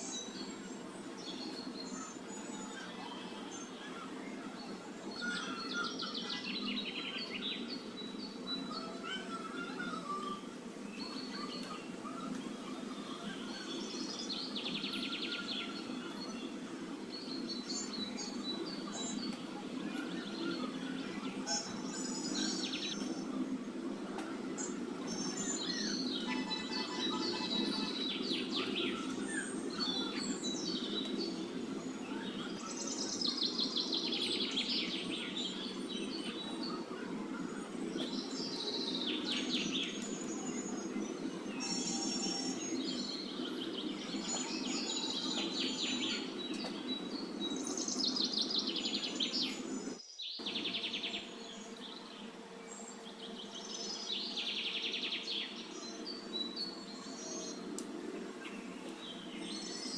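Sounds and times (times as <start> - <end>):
birds trilling calls: 0.0 - 59.9.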